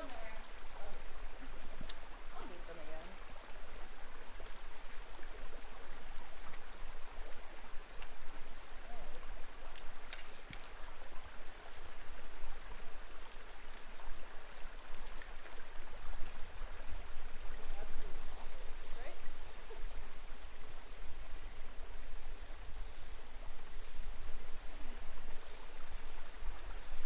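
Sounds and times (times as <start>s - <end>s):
creek flowing over stones: 0.0s - 27.0s.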